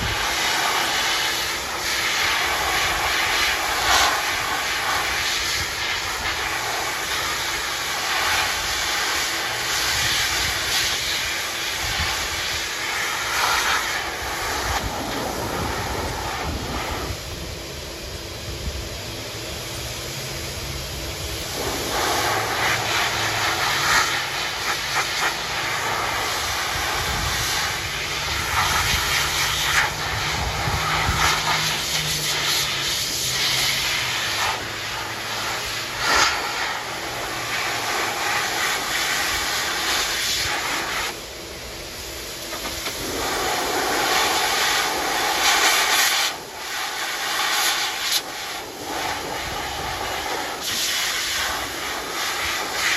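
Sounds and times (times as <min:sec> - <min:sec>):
dog dryer blowing air: 0:00.0 - 0:52.9.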